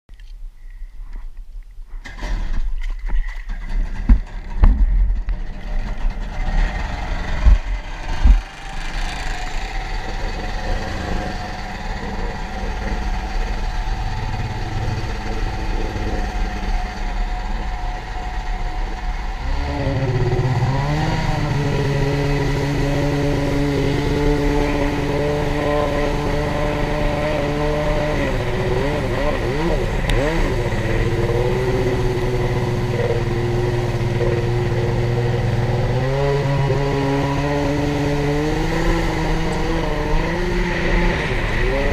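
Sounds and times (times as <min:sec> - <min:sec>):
jet ski engine revving: 0:03.4 - 0:41.9.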